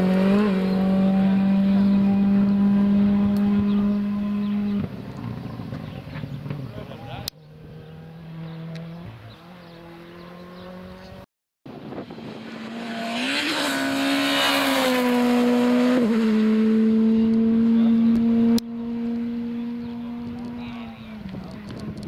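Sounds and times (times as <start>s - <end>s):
rally car passing at high revs: 0.0s - 11.2s, 11.9s - 22.0s
distant car engine: 0.0s - 22.0s.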